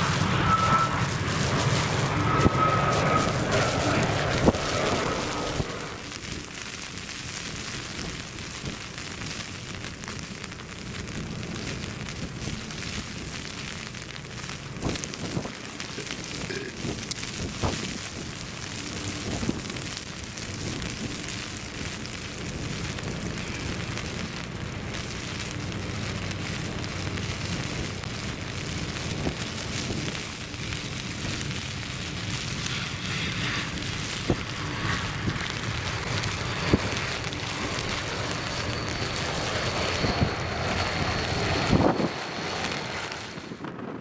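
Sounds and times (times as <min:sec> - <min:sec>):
jet airliner landing: 0:00.0 - 0:09.5, 0:14.6 - 0:44.0
wind gusting on microphone: 0:00.0 - 0:10.0, 0:10.9 - 0:44.0
heavy rain: 0:00.0 - 0:44.0
thin high engine whine: 0:00.0 - 0:44.0.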